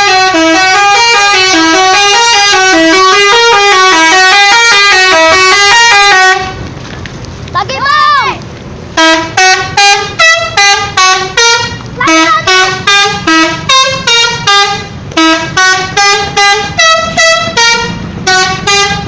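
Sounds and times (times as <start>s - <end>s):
musical bus air horn: 0.0s - 6.6s, 9.0s - 19.0s.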